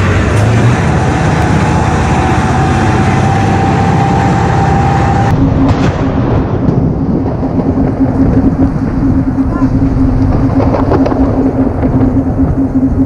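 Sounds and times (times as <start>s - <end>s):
low pulsing engine hum: 0.0s - 13.0s
tracked vehicle engine running: 0.0s - 13.0s
thin steady whine: 0.9s - 13.0s.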